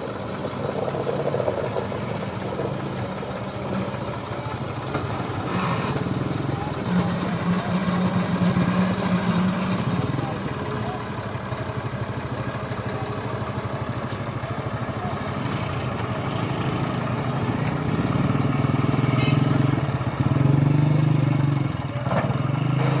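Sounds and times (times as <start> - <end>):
tractor diesel engine chugging: 0.0 - 23.0.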